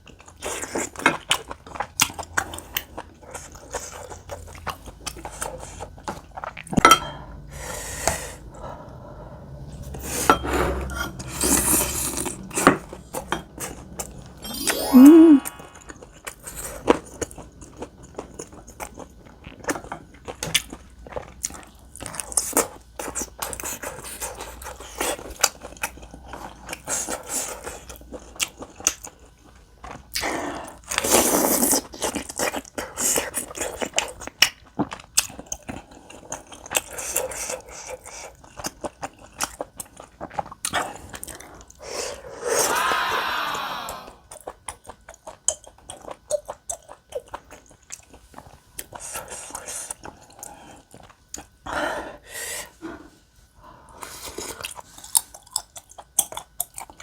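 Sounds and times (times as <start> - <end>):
wet chewing and mouth sounds: 0.0 - 6.8, 10.8 - 42.5, 44.2 - 51.7, 54.0 - 57.0.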